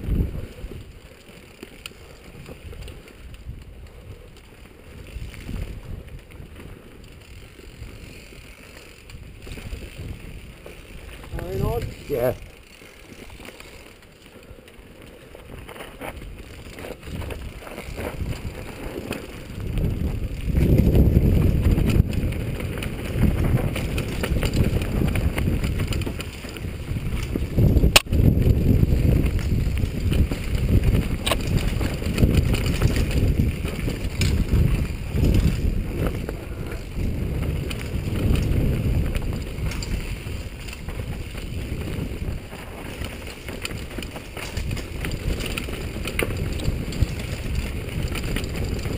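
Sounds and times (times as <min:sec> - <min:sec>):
wind rushing over microphone: 0:00.0 - 0:01.0, 0:02.3 - 0:12.5, 0:15.5 - 0:48.9
mountain bike clattering on trail: 0:00.0 - 0:48.9.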